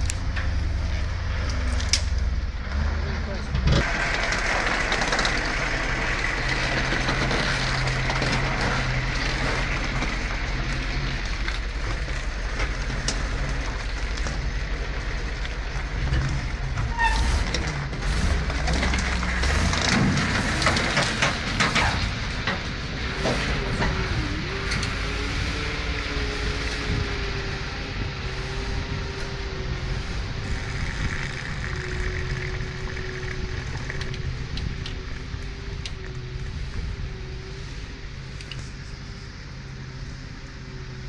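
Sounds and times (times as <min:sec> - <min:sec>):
heavy machinery engine drone: 0:00.0 - 0:41.0.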